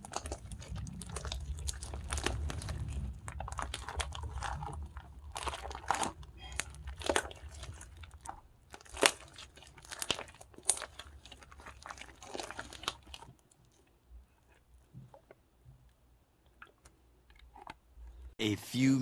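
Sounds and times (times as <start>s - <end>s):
hands squishing slime: 0.0s - 15.4s.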